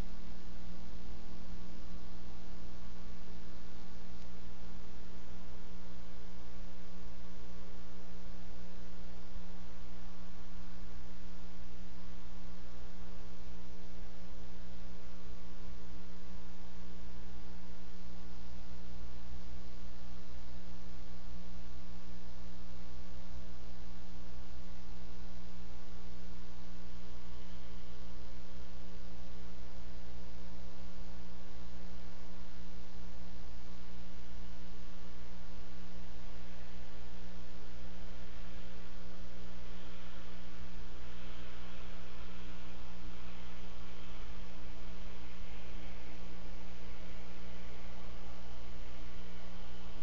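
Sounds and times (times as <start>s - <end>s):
electrical mains hum: 0.0s - 50.0s
faint hiss: 0.0s - 50.0s.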